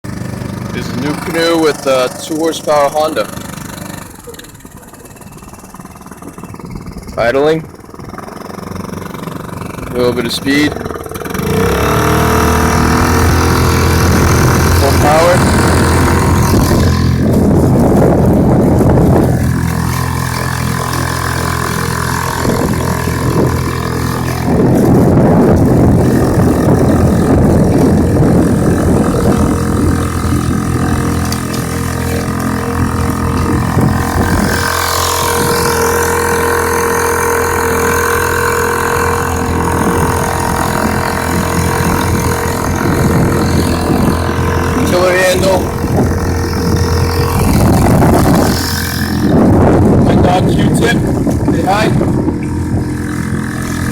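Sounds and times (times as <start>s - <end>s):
outboard motor running: 0.0s - 53.9s.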